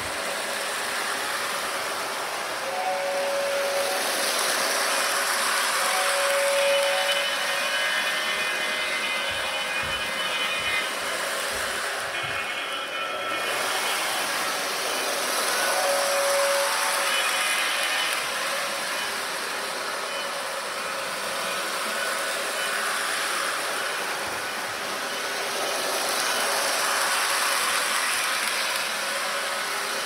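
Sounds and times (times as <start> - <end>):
toy train motors whirring: 0.0 - 30.0
wheels rolling on plastic track: 3.7 - 30.0.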